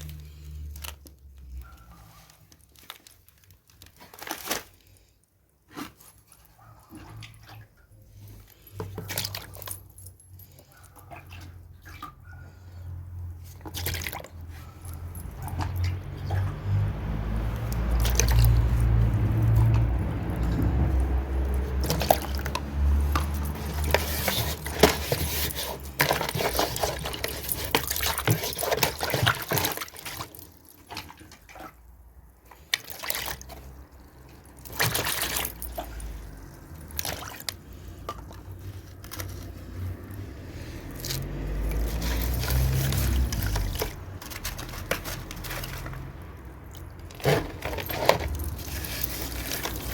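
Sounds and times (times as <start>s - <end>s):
cement crunching and splashing: 0.0s - 49.9s.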